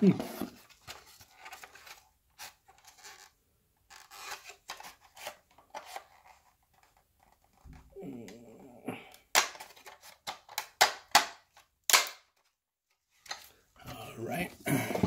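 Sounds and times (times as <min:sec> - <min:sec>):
plastic parts clicking and scraping: 0:00.2 - 0:08.4, 0:09.2 - 0:13.6.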